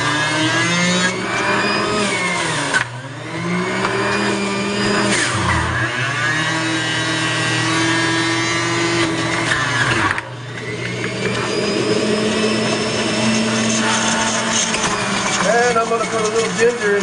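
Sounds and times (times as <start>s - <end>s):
juicer motor whining and grinding: 0.0s - 17.0s.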